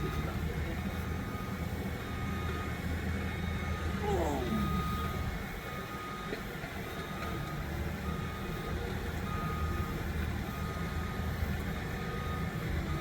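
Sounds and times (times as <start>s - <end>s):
reversing alarm beeping: 0.0s - 13.0s.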